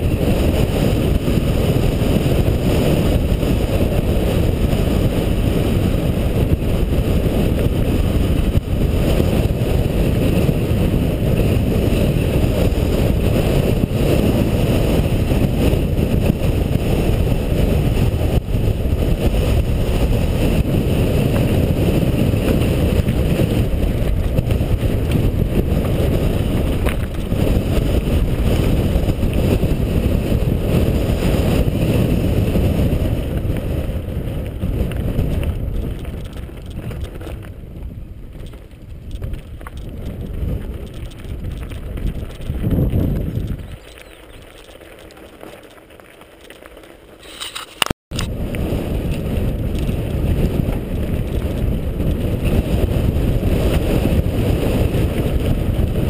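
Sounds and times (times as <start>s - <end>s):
wind buffeting microphone: 0.0s - 46.9s, 48.1s - 56.0s
bike tyres rattling over gravel: 0.0s - 56.0s.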